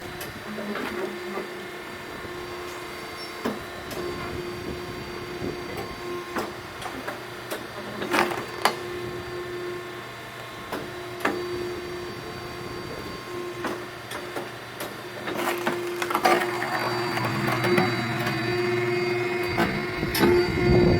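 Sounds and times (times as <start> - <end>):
firewood splitter machine whine: 0.0 - 20.9.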